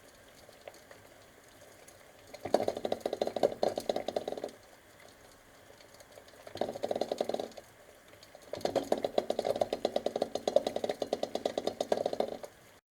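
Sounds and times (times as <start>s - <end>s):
eggs rattling in boiling pot: 0.0s - 12.7s.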